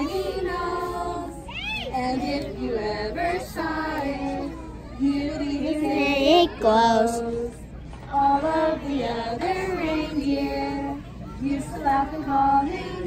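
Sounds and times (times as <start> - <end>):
child singing: 0.0 - 13.0
woman singing: 0.0 - 13.0.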